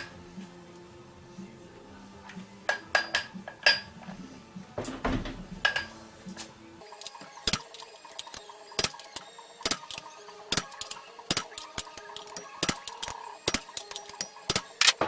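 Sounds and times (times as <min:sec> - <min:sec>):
hand tools clinking on metal: 0:02.2 - 0:15.0.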